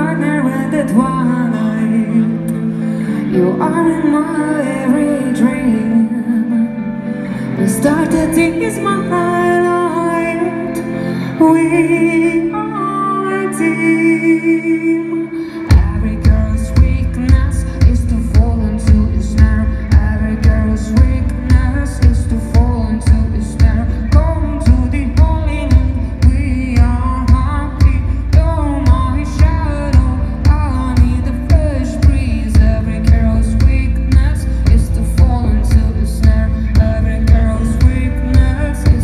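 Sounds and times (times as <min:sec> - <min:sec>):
live pop band music: 0:00.0 - 0:39.0.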